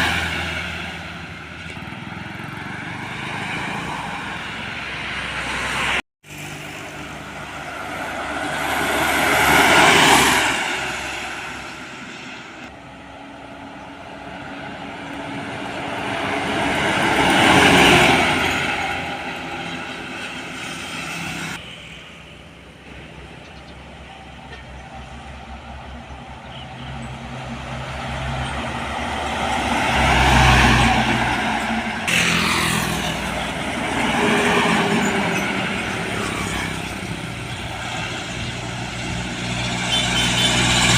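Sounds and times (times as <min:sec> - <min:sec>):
trucks and buses driving past: 0:00.0 - 0:40.9.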